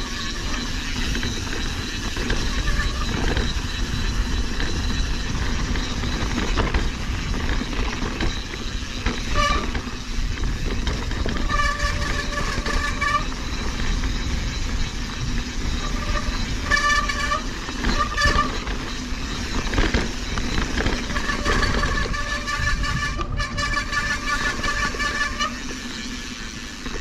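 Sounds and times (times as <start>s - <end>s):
wind noise: 0.0s - 25.9s
bike rolling over rocks: 0.0s - 27.0s
high-pitched bike whine: 0.0s - 27.0s.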